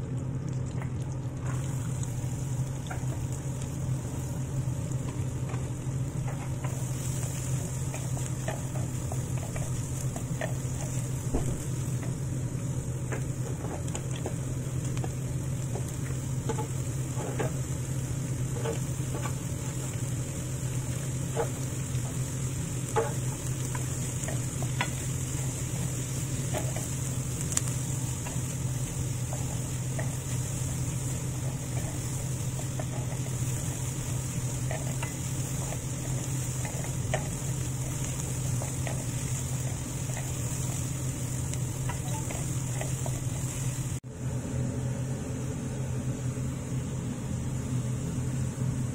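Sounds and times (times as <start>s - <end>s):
onions sizzling in butter: 0.0s - 44.1s
steady low hum: 0.0s - 48.9s.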